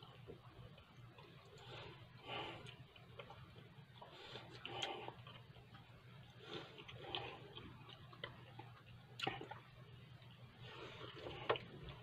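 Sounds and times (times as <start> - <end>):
low steady hum: 0.0 - 12.0
person chewing food: 0.0 - 12.0.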